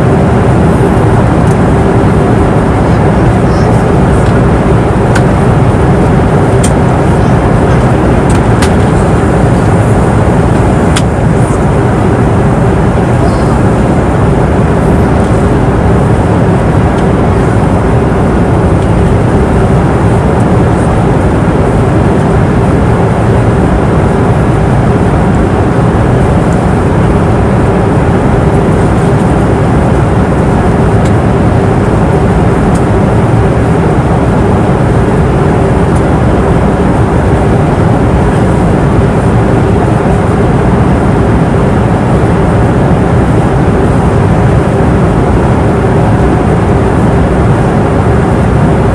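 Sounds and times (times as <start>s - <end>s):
airliner cabin drone: 0.0s - 48.9s
steady hum: 0.0s - 48.9s.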